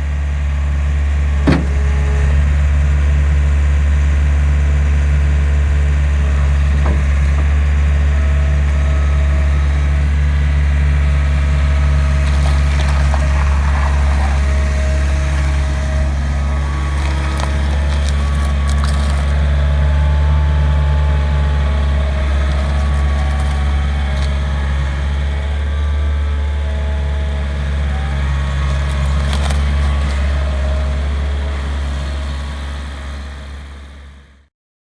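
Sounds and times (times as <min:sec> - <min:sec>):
diesel engine droning: 0:00.0 - 0:34.5.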